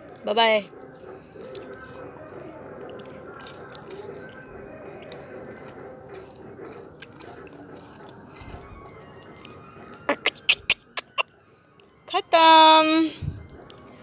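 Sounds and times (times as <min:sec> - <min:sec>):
dog chewing a dry biscuit: 0:00.0 - 0:12.0.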